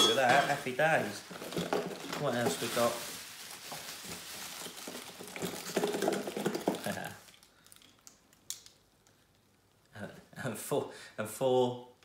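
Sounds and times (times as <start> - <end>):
bubble wrap rustling and crackling: 0.2 - 10.0.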